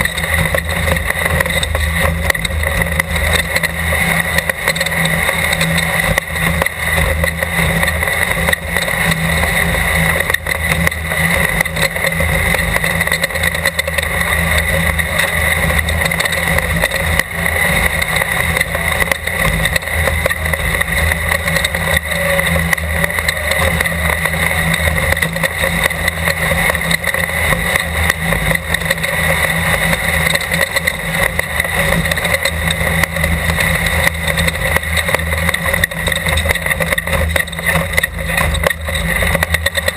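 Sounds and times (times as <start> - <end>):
race car engine drone: 0.0 - 39.9.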